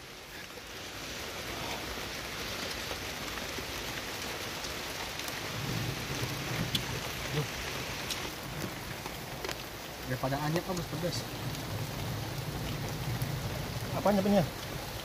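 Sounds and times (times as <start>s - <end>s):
rain on a plastic tarp: 0.0s - 15.0s.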